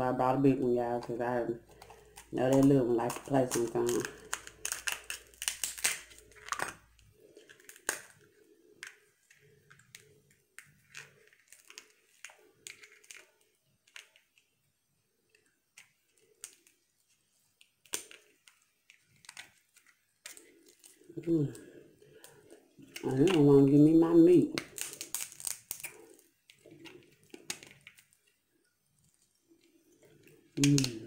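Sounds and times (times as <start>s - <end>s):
crab shells cracking: 1.1s - 14.6s, 15.3s - 23.4s, 24.4s - 28.4s, 29.0s - 31.0s.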